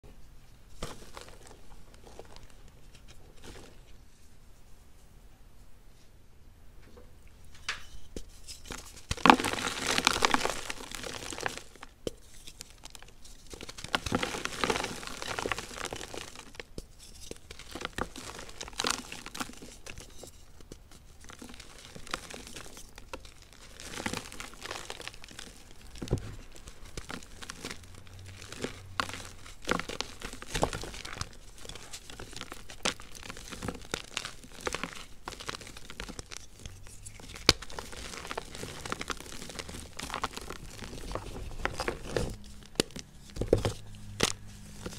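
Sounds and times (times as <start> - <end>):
chalk crushing and crumbling: 0.7 - 4.2, 7.8 - 44.9.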